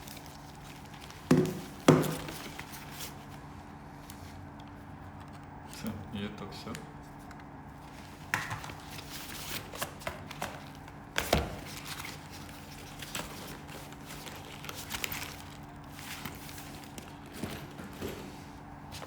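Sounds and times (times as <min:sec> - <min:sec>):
cardboard and plastic rustling: 0:00.0 - 0:19.0.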